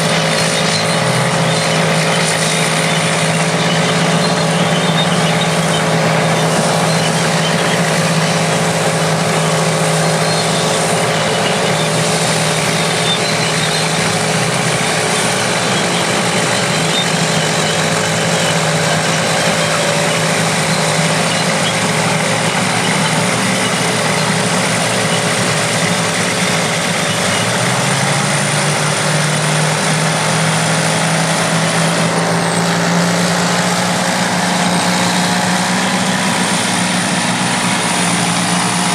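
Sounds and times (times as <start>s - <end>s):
heavy machinery engines droning: 0.0s - 38.9s.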